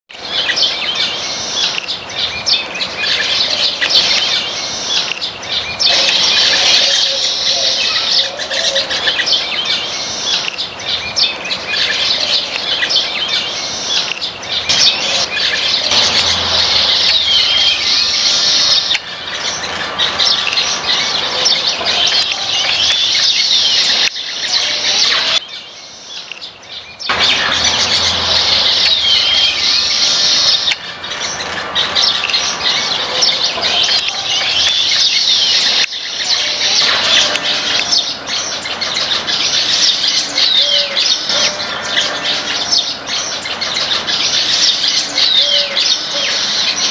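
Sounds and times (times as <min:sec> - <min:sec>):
flock of birds chirping: 0:00.1 - 0:46.9.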